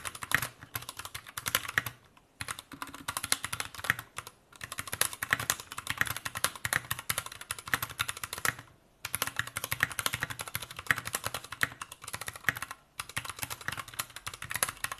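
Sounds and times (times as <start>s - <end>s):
fast typing on mechanical keyboard: 0.0s - 14.9s.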